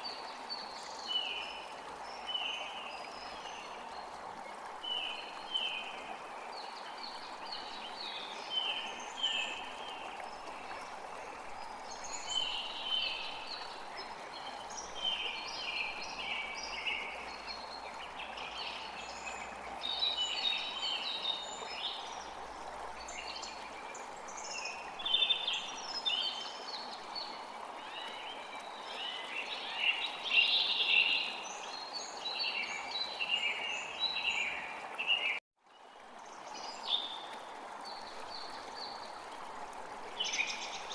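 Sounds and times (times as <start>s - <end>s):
running water hiss: 0.0s - 35.3s, 36.1s - 40.9s.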